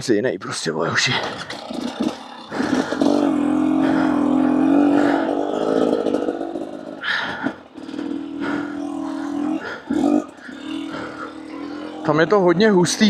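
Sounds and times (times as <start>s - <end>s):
two-stroke motorcycle engine revving: 1.5s - 12.1s.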